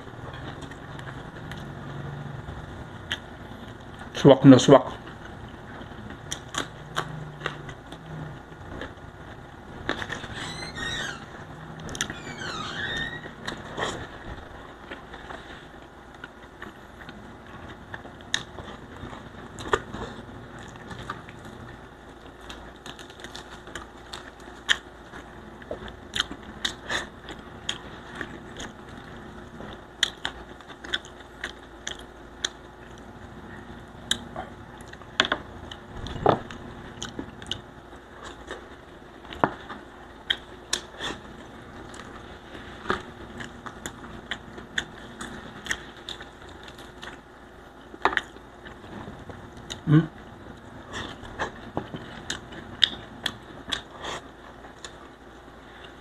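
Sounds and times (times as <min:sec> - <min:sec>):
crunching and chewing fried fish: 0:00.1 - 0:10.3, 0:13.4 - 0:56.0.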